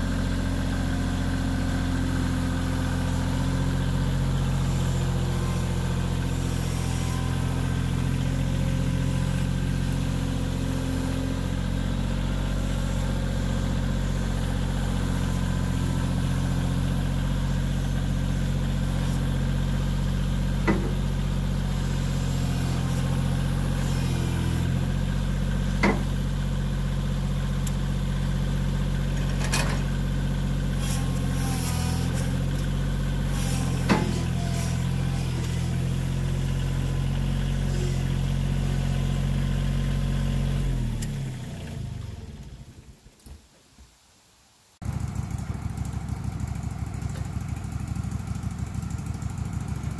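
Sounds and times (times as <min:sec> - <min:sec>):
sawmill gasoline engine running: 0:00.0 - 0:43.0, 0:44.8 - 0:49.9.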